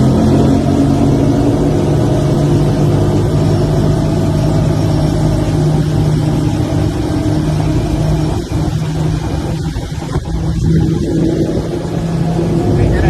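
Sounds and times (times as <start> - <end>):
powerboat engine drone: 0.0 - 13.0.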